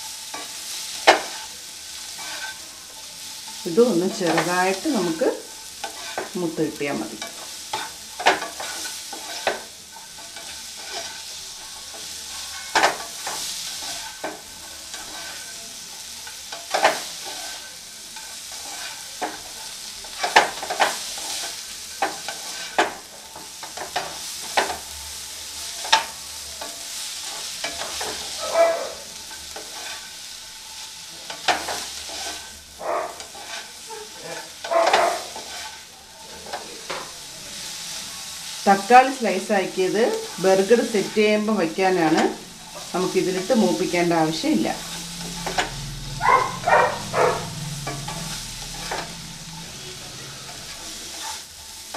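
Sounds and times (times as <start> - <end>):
spatula scraping a pan: 0.0 - 51.9
vegetables sizzling in a pan: 0.0 - 51.9.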